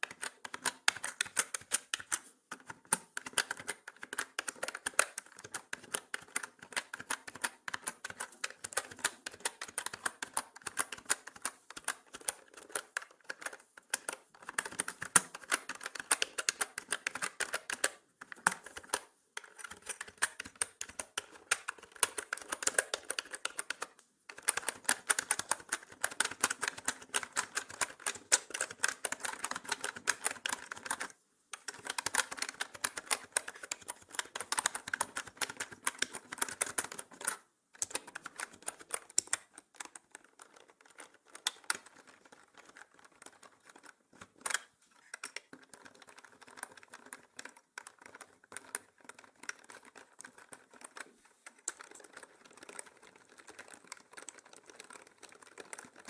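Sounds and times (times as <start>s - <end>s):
mechanical keyboard key clicks: 0.0s - 51.0s.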